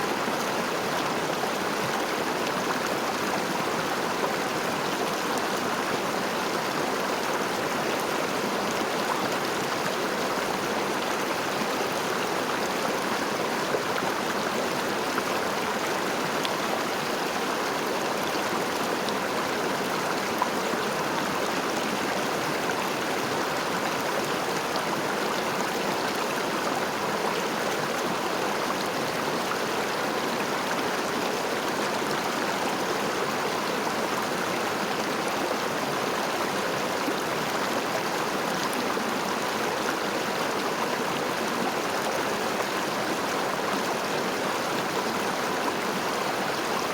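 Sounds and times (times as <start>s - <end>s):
river flowing over stones: 0.0s - 46.9s.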